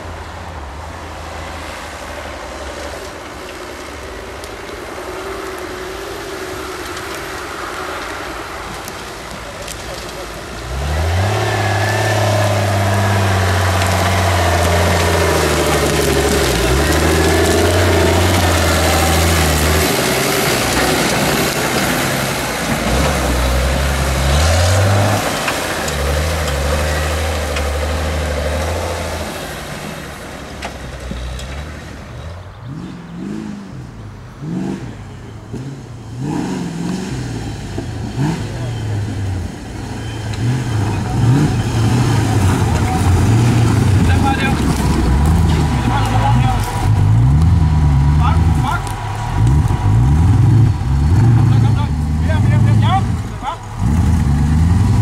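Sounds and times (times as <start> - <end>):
off-road vehicle engine crawling: 0.0 - 55.0.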